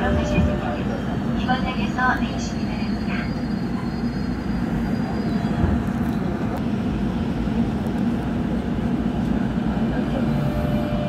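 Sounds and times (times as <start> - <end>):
train running gear and motors rumbling: 0.0 - 11.0.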